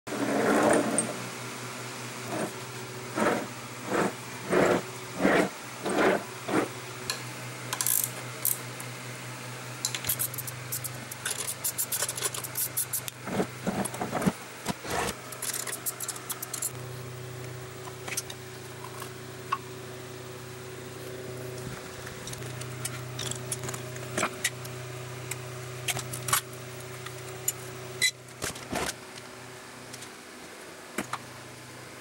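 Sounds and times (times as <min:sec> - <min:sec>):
shop fan humming: 0:00.1 - 0:32.0.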